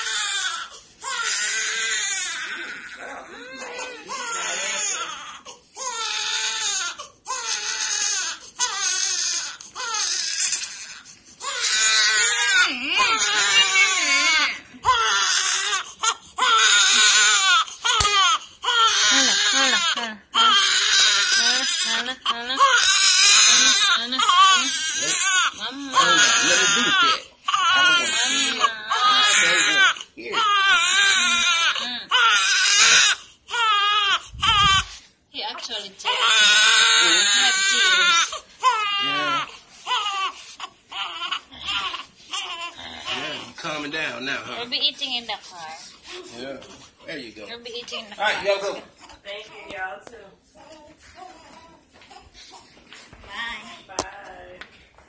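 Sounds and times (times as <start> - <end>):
newborn baby crying: 0.0 - 35.0, 35.6 - 49.8, 50.5 - 52.8.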